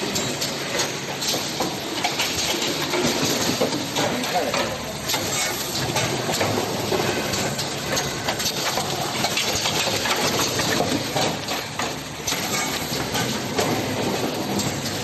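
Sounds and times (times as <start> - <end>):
packaging machine clattering: 0.0 - 15.0.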